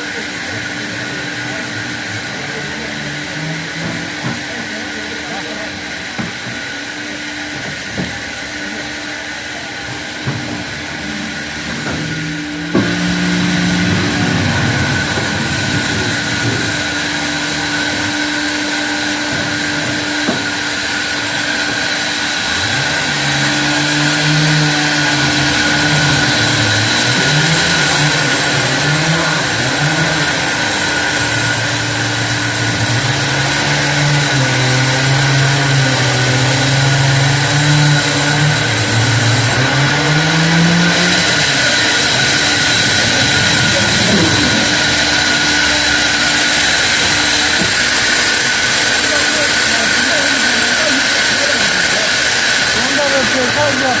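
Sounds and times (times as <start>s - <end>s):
motor pitch wandering: 0.0s - 54.0s
sawmill machinery whining: 0.0s - 54.0s.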